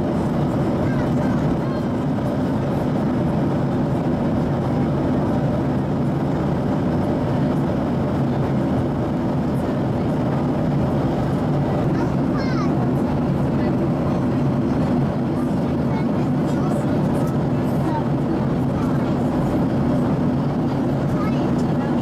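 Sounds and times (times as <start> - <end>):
airliner cabin noise: 0.0 - 22.0.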